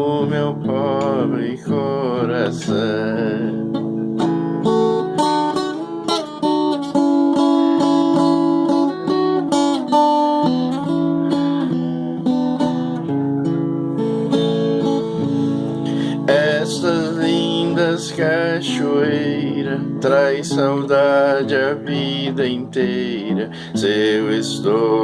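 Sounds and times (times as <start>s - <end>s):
acoustic guitar plucking and strumming: 0.0s - 25.0s.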